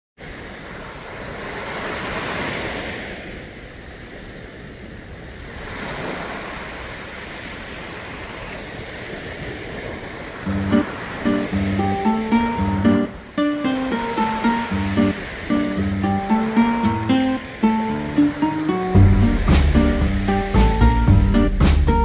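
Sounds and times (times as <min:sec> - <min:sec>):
small waves breaking on sand: 0:00.2 - 0:21.5.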